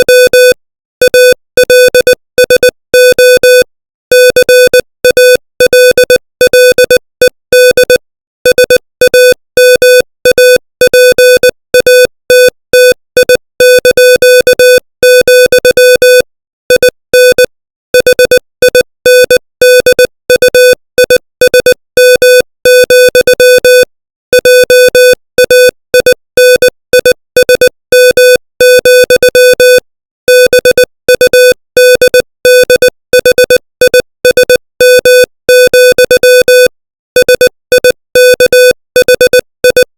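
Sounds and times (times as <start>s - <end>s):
morse code tones: 0.0s - 39.9s.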